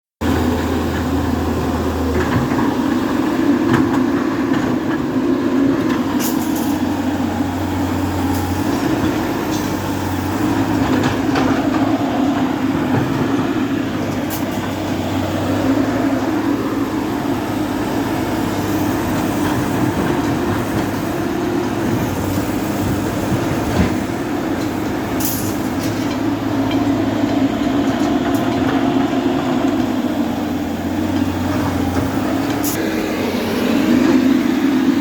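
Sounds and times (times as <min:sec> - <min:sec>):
diesel engine running: 0:00.2 - 0:35.0.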